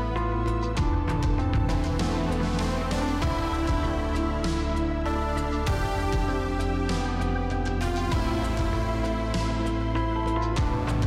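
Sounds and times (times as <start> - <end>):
deep steady bass: 0.0 - 11.0
held synth chords: 0.0 - 11.0.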